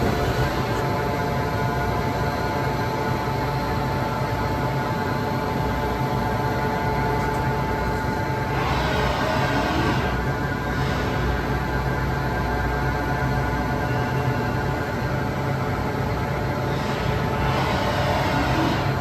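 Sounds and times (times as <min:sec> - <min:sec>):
machine hum with high whine: 0:00.0 - 0:19.0.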